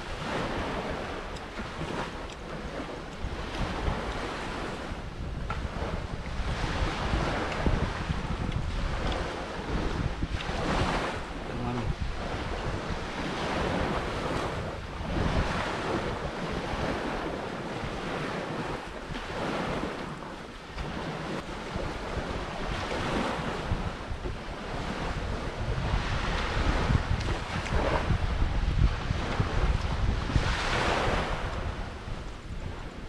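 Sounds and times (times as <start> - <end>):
sea surf washing onto shore: 0.0 - 33.0
wind buffeting microphone: 0.0 - 33.0.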